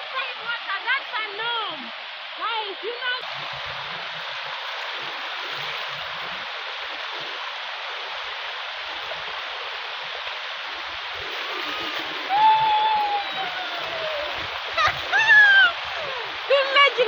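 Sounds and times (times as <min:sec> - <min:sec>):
water rushing down rock: 0:00.0 - 0:17.0.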